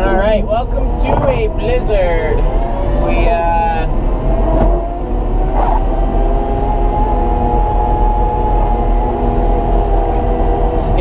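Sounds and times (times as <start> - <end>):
loader engine droning: 0.0 - 11.0.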